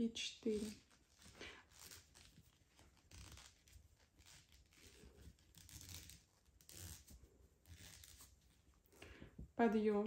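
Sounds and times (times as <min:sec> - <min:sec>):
yarn rustling through crochet hook: 0:00.0 - 0:10.0.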